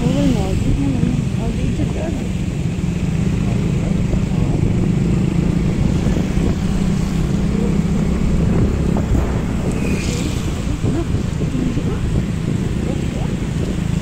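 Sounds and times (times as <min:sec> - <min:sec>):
vehicle engine rumbling: 0:00.0 - 0:14.0
wind buffeting microphone: 0:00.0 - 0:14.0.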